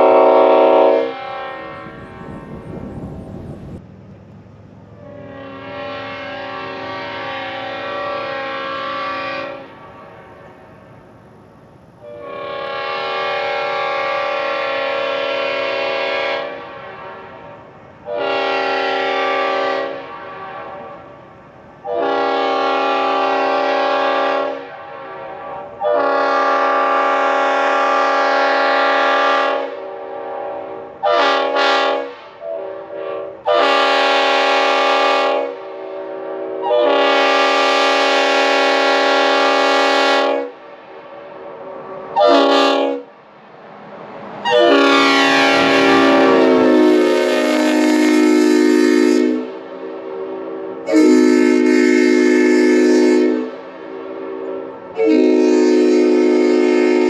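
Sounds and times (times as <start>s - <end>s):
locomotive air horn blasts: 0.0s - 3.5s, 5.0s - 10.8s, 12.0s - 43.2s, 44.4s - 57.0s.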